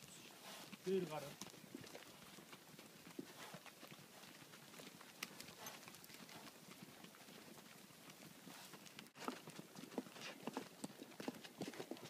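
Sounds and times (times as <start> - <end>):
horse hoofbeats on hard ground: 0.0 - 12.0.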